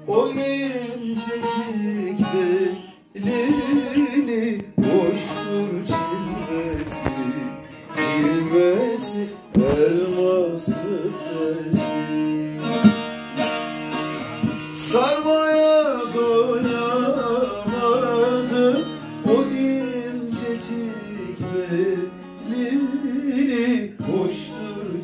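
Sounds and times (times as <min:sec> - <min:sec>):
man singing: 0:00.0 - 0:13.2, 0:14.4 - 0:25.0
plucked long-necked lutes: 0:00.0 - 0:25.0.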